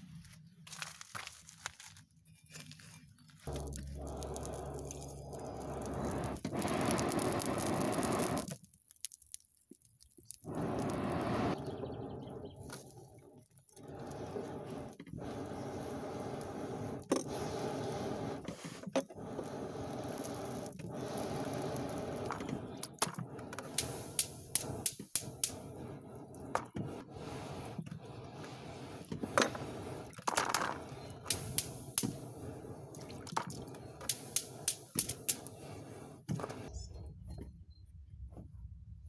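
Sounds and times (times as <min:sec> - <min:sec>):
charcoal crackling and popping: 0:00.1 - 0:11.7, 0:12.6 - 0:18.4, 0:19.0 - 0:35.8.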